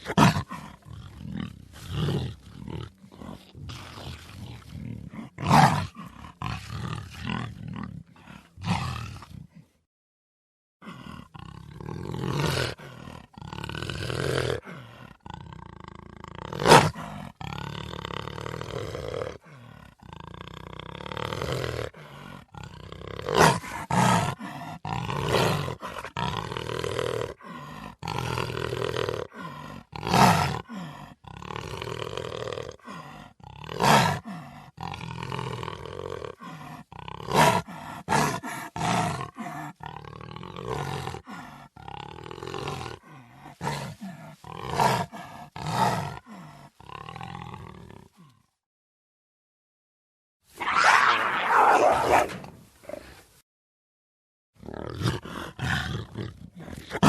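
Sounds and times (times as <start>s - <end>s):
big cat roaring: 0.0s - 9.6s, 10.8s - 48.5s, 50.6s - 53.2s, 54.6s - 57.0s.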